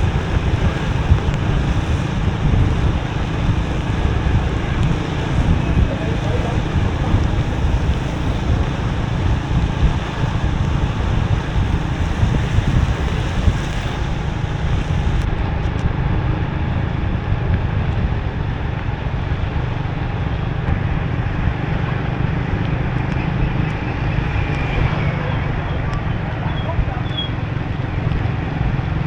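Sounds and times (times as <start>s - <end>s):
motorbike engine running: 0.0s - 29.0s
rain: 0.0s - 29.0s
surrounding traffic: 0.0s - 29.0s
wind rush on microphone: 0.0s - 29.0s.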